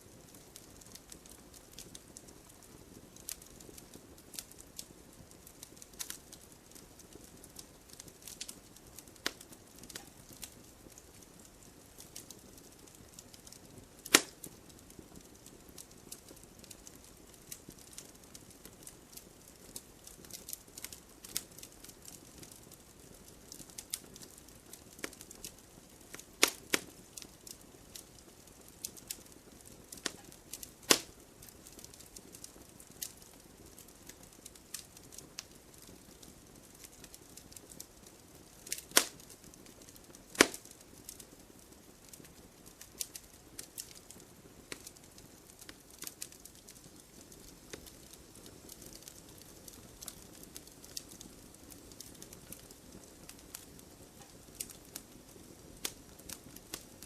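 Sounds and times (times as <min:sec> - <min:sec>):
burning logs popping: 0:00.0 - 0:57.0
faint steady hiss: 0:00.0 - 0:57.0
wood fire crackling: 0:00.0 - 0:57.0.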